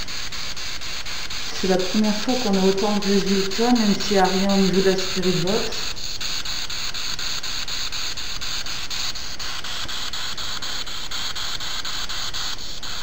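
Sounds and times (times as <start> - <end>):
radio static hiss: 0.0 - 13.0
regular scanning clicks: 0.0 - 13.0.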